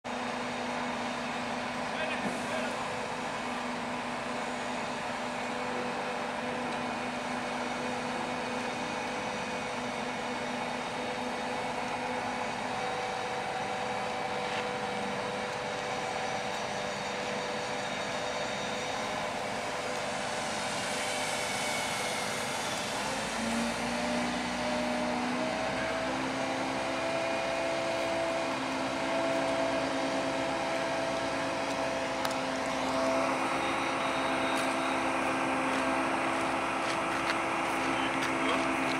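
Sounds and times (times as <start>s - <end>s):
crane diesel engines and hydraulics: 0.0s - 38.9s.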